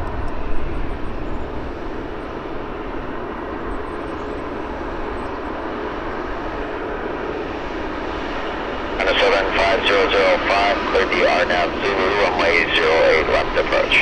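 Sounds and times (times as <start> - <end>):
airliner engines running: 0.0 - 14.0.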